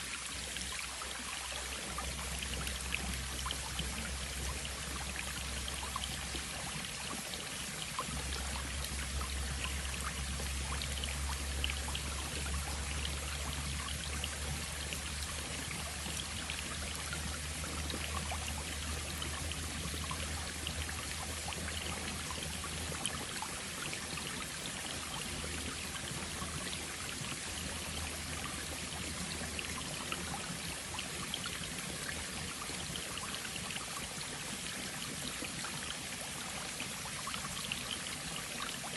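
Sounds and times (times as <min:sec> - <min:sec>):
small splashes and drips: 0:00.0 - 0:38.9
stream babbling over stones: 0:00.0 - 0:38.9.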